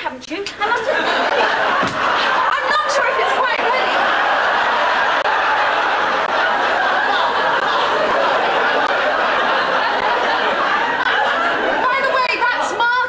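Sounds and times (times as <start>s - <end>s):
audience laughing: 0.6s - 13.0s.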